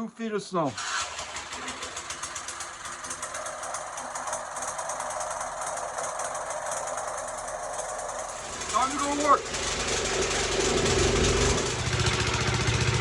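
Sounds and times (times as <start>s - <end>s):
snowblower engine running: 0.8s - 13.0s.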